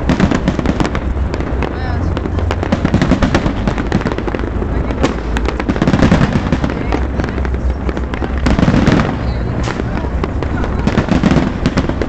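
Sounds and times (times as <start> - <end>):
continuous low rumble: 0.0 - 12.0
fireworks bangs and crackling: 0.0 - 12.0.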